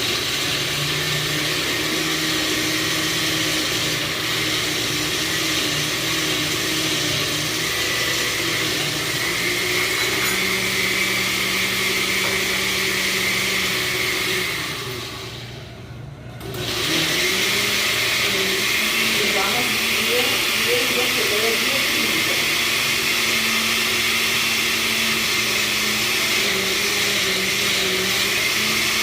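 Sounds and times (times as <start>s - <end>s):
electric blender running: 0.0s - 15.7s, 16.4s - 29.0s.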